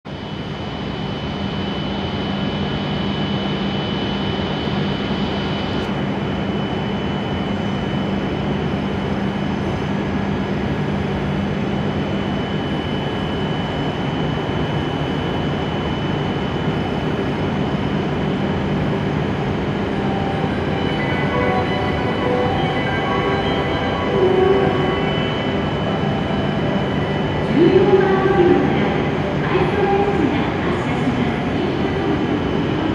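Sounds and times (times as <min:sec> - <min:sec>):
train machine hum with whine: 0:00.1 - 0:32.9.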